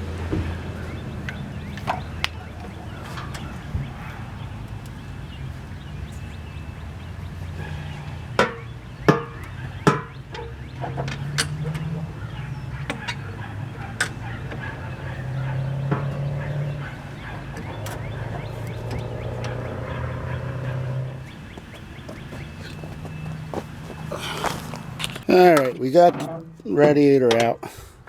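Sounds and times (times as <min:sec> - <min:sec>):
hard parts clunking: 0:00.1 - 0:05.1, 0:07.5 - 0:27.7.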